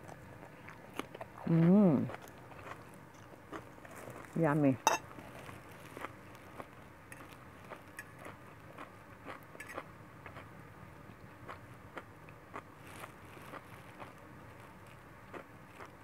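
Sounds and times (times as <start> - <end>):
person chewing: 0.0 - 4.4, 5.0 - 10.5, 11.4 - 16.0.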